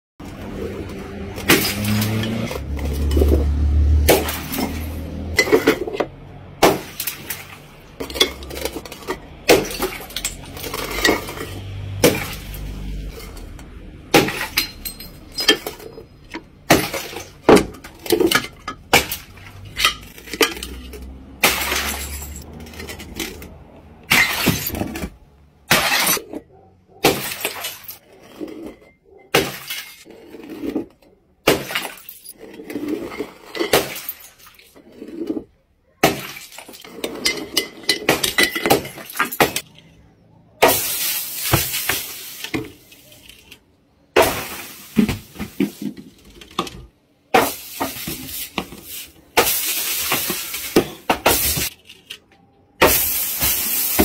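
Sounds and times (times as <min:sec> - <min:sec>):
glass bottles smashing on bricks: 0:01.3 - 0:40.0, 0:40.6 - 0:52.2, 0:52.8 - 0:54.0.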